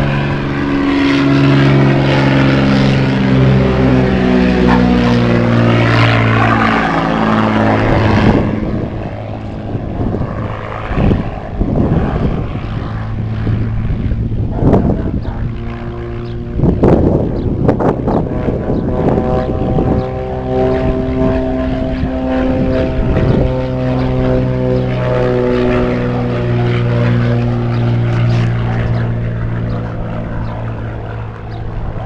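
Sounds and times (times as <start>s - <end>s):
propeller airplane passing overhead: 0.0s - 32.0s.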